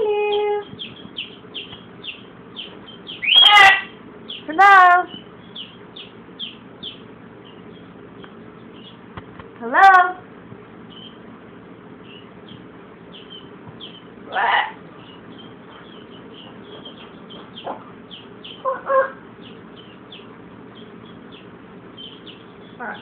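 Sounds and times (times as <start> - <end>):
macaw calling: 0.8 - 9.0, 10.9 - 11.2, 12.0 - 23.0.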